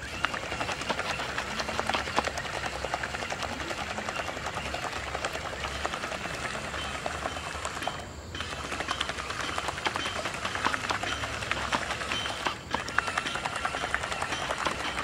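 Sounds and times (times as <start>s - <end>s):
paddle wheel splashing water: 0.0s - 15.0s
small motor humming: 0.0s - 15.0s.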